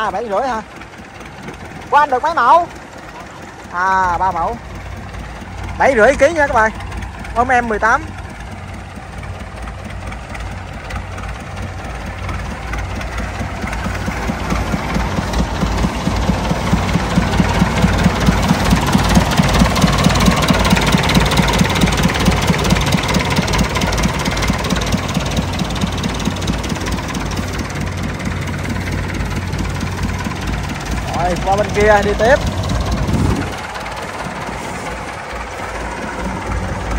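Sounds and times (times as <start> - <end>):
diesel tractor engine idling: 0.0 - 36.9.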